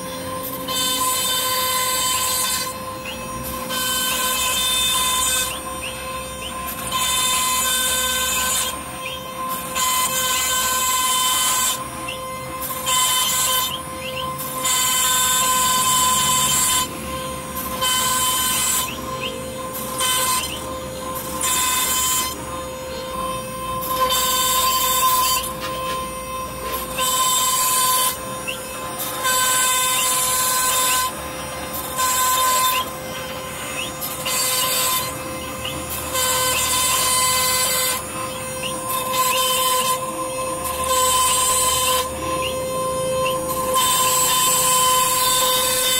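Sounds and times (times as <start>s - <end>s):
hissing wood cutting noise: 0.0s - 45.9s
router spindle whine: 0.0s - 45.9s.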